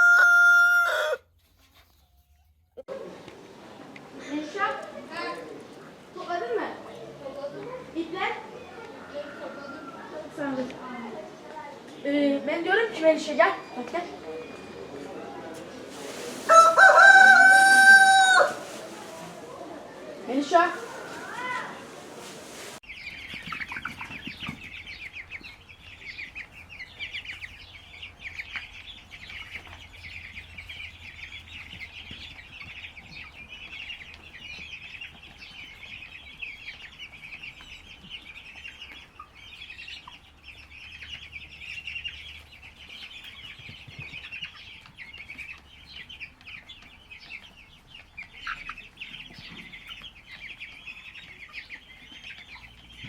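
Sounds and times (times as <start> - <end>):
chicks peeping: 0.0 - 2.2, 2.9 - 53.0.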